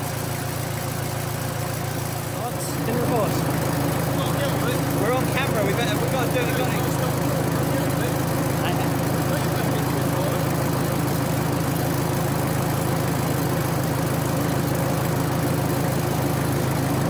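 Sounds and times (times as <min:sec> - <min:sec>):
locomotive engine droning: 0:00.0 - 0:17.0.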